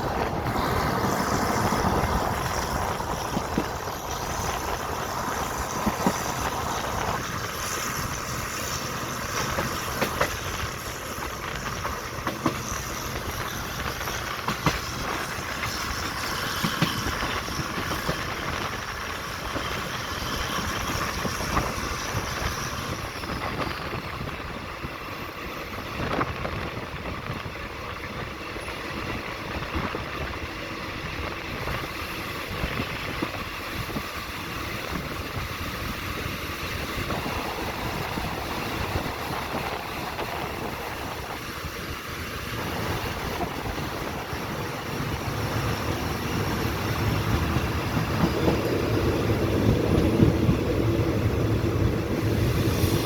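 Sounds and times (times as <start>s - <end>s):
wheels clacking over rail joints: 0.0s - 25.0s, 26.0s - 53.0s
train rumbling: 0.0s - 53.0s.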